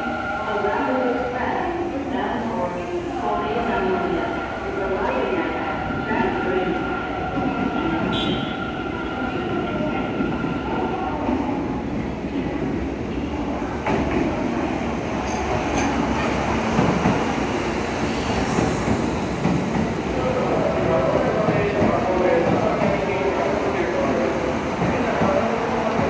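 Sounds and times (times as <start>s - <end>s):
train rumbling into station: 0.0s - 26.0s.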